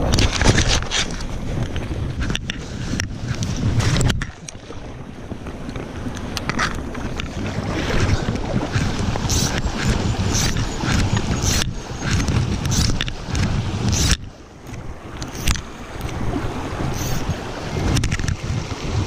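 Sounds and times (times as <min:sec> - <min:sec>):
shallow stream rushing: 0:00.0 - 0:19.0
wind rumble on microphone: 0:00.0 - 0:19.0.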